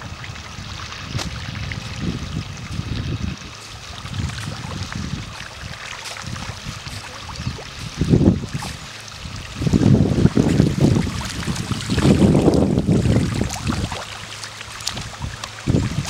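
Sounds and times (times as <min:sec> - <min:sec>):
wind buffeting microphone: 0:00.0 - 0:14.1, 0:14.8 - 0:16.0
waves lapping on gravel: 0:01.1 - 0:16.0.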